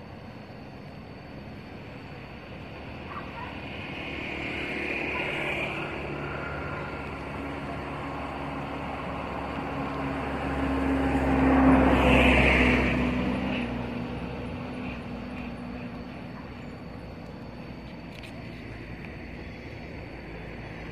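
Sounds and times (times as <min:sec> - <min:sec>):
vehicle engine passing by: 0:01.8 - 0:20.9.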